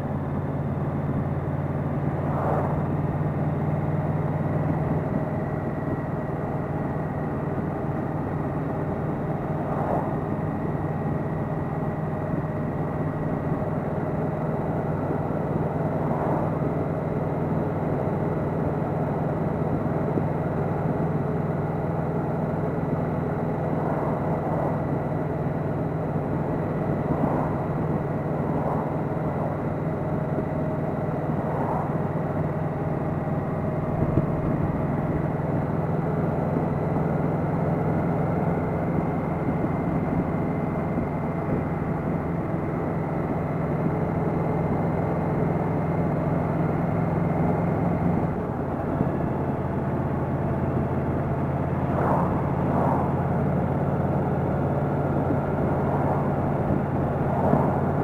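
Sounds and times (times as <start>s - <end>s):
motorcycle engine drone: 0.0s - 58.0s
road and wind noise: 0.0s - 58.0s.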